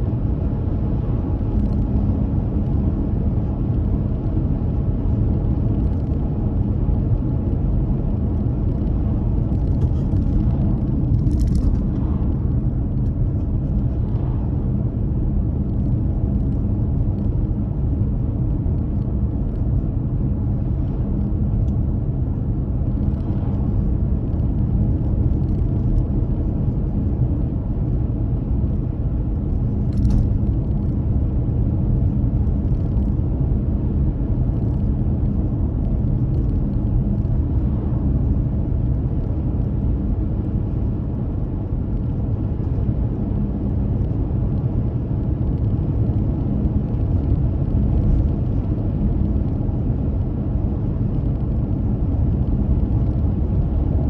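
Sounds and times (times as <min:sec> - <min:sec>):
car road and engine rumble: 0:00.0 - 0:54.0
low hum: 0:00.0 - 0:54.0.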